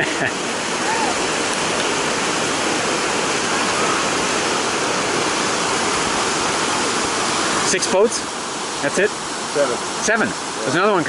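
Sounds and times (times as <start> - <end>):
whitewater rapid rushing: 0.0 - 11.0.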